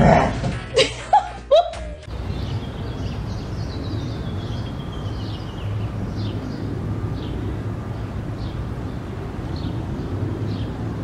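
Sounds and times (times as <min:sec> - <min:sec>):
road traffic rumble: 0:00.0 - 0:11.0
small birds chirping: 0:02.1 - 0:11.0.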